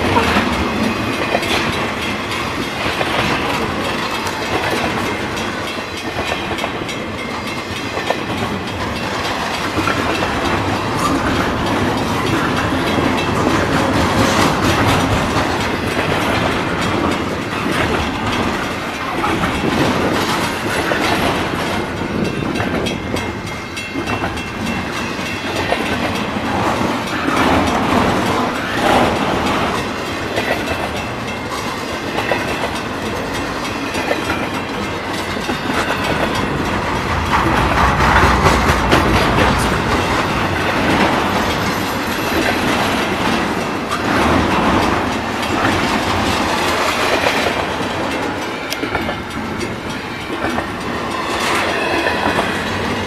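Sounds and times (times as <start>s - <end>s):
freight train rumbling past: 0.0s - 53.0s
train wheels clickety-clack on rails: 0.0s - 53.0s.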